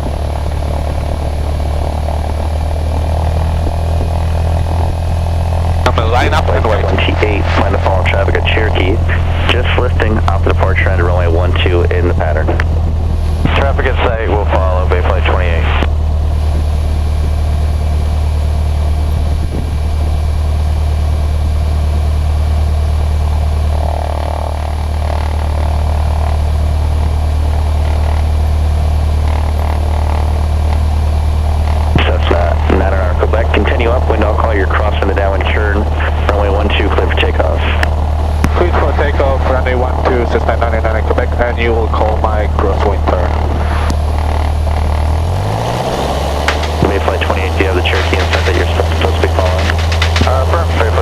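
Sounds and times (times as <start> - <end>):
airplane engine and propeller drone: 0.0 - 51.0
faint high whine: 0.0 - 51.0.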